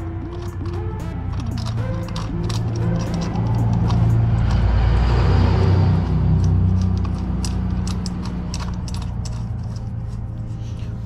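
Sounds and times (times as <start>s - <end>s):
metal clicks and clinks: 0.0s - 4.7s, 5.9s - 10.3s.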